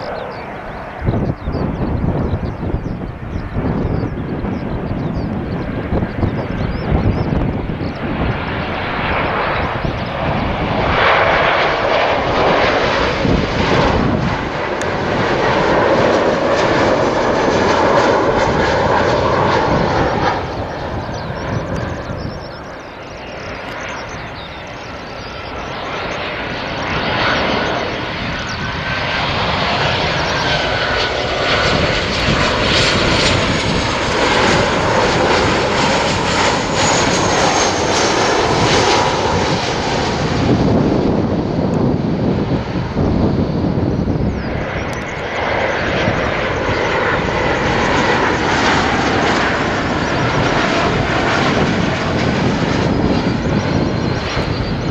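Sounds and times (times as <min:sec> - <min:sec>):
jet airliner engines rushing: 0:00.0 - 0:54.9
thin engine whine: 0:00.0 - 0:54.9.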